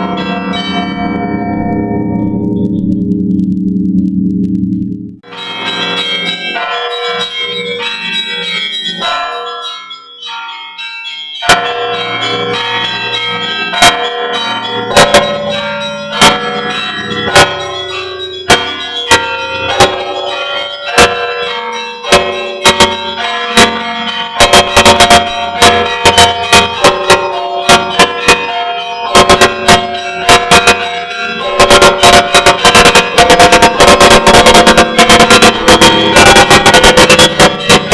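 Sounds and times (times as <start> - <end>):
heavy church bell: 0.0 - 3.1, 5.2 - 37.9
smaller higher bells: 0.0 - 3.5, 5.2 - 37.9.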